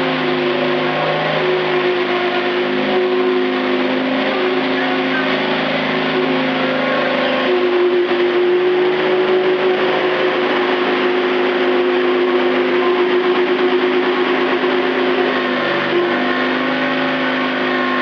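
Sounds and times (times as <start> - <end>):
bulldozer engine droning: 0.0 - 18.0.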